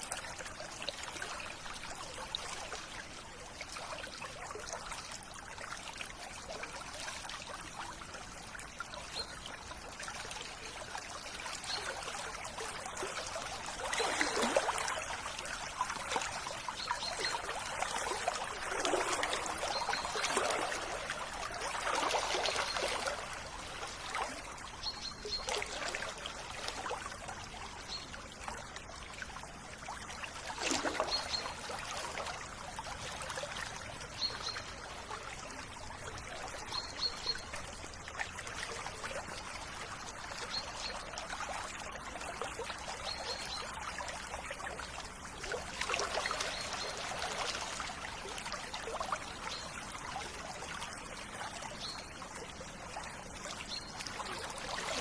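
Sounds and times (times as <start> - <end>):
river water trickling and splashing: 0.0 - 55.0.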